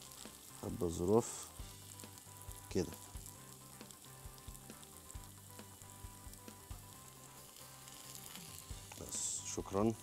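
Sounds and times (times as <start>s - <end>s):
faint sizzling in a pan: 0.0s - 10.0s.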